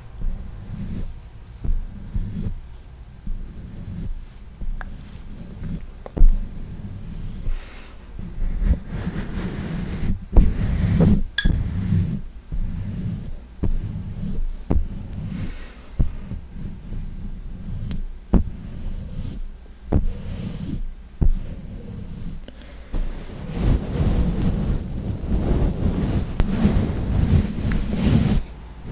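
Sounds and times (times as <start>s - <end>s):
brush rubbing microphone: 0.0s - 28.9s.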